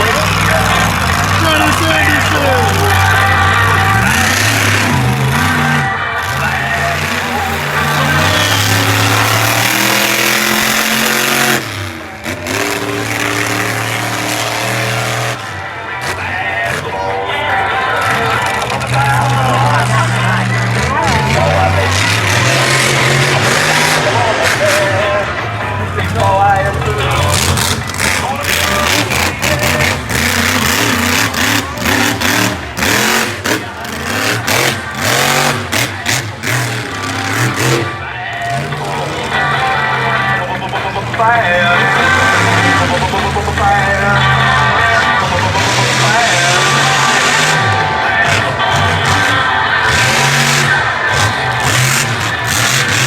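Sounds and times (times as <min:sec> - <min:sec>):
monster truck engine revving: 0:00.0 - 0:53.0.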